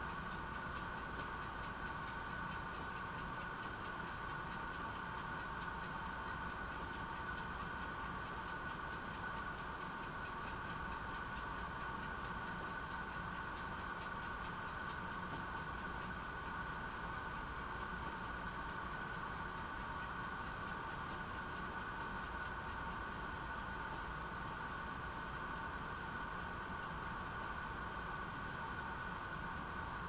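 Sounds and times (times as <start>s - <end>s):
faint regular ticking: 0.0s - 28.0s
steady hum: 0.0s - 30.0s.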